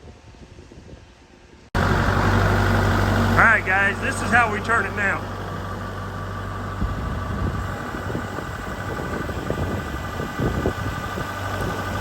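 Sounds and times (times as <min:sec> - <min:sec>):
tractor engine running: 0:01.8 - 0:12.0.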